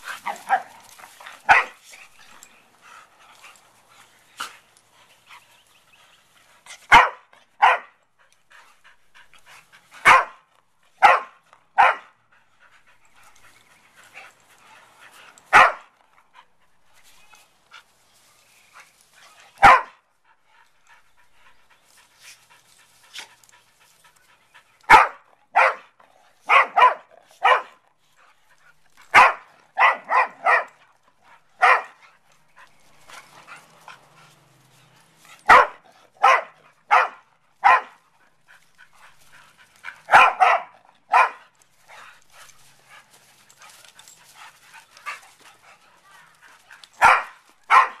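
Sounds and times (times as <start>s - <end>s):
dogs play barking: 0.0s - 18.0s, 18.8s - 48.0s.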